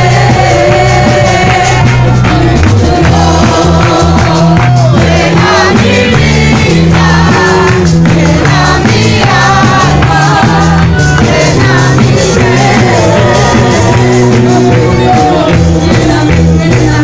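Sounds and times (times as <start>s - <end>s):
band with bass and percussion: 0.0s - 17.0s
group singing worship song: 0.0s - 17.0s.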